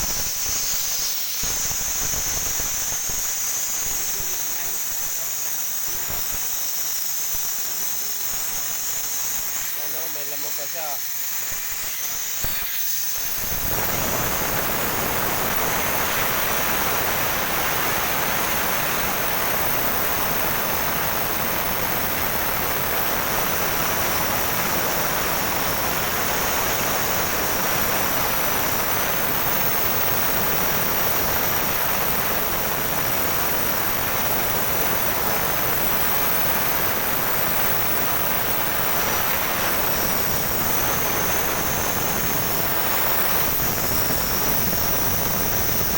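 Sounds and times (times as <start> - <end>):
gas hissing from cylinder valve: 0.0 - 45.9.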